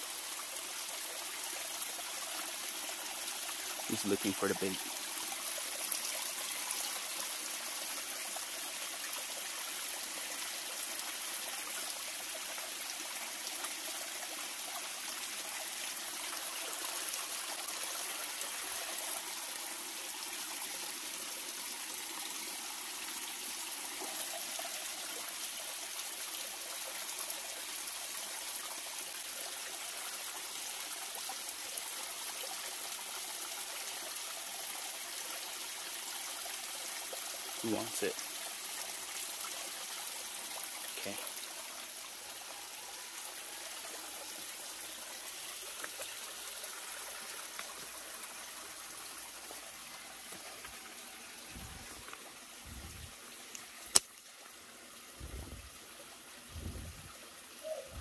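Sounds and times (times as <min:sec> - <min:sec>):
river water running over rocks: 0:00.0 - 0:58.0.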